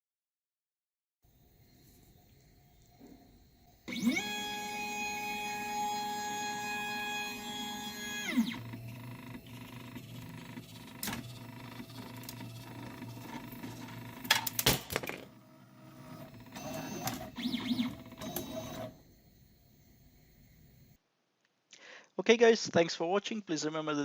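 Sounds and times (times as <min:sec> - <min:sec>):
stepper motors whining: 0:01.3 - 0:21.0.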